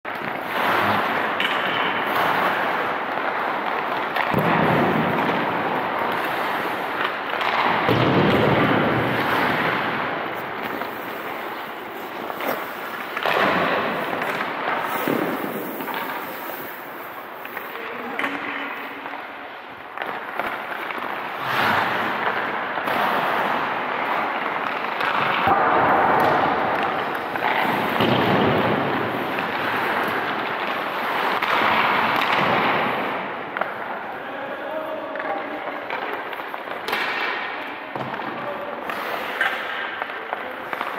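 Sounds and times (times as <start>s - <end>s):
sharp cracks of pucks struck: 0.1s - 34.2s, 35.1s - 40.9s
skates scraping on ice: 0.1s - 40.9s.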